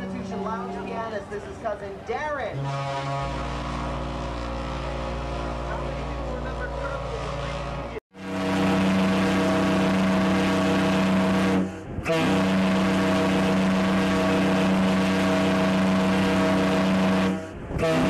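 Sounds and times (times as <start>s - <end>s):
deep ship horn blasts: 0.0s - 1.5s, 2.4s - 18.0s.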